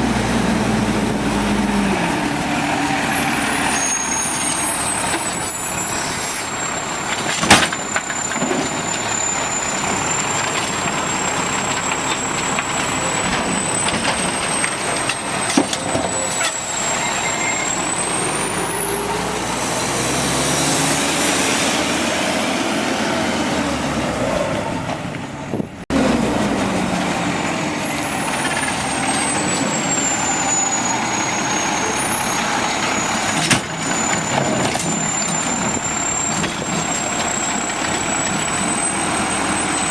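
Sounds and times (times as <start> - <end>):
garbage truck engine and hydraulics: 0.0 - 39.9.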